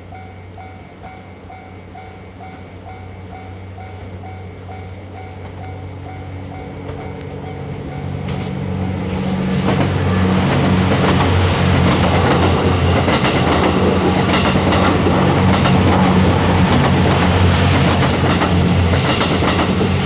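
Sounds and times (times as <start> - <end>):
diesel train engine drone: 0.0 - 20.0
train wheels on rails: 0.1 - 20.0.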